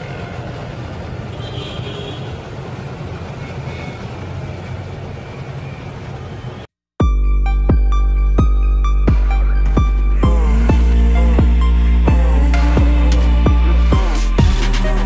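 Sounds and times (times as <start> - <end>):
car road and engine drone: 0.0 - 6.8, 7.4 - 15.0.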